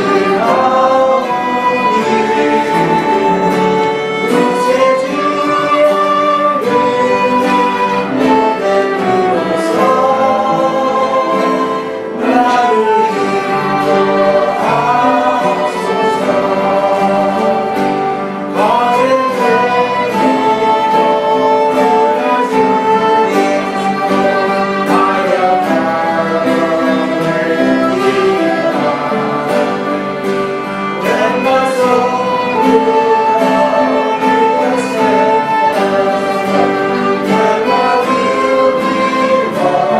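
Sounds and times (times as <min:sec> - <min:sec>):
congregation singing a hymn: 0:00.0 - 0:39.9
instrumental accompaniment: 0:00.0 - 0:39.9.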